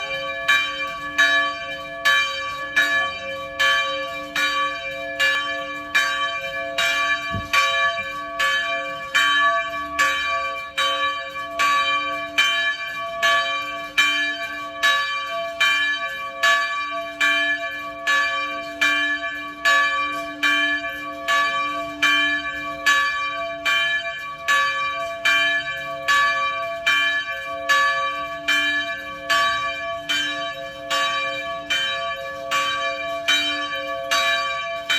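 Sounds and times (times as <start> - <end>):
church bell ringing: 0.0 - 34.9.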